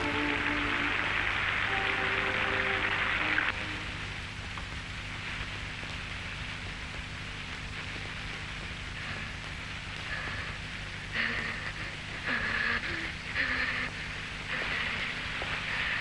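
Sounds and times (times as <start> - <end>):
low hum: 0.0 - 16.0
steady hiss: 0.0 - 16.0.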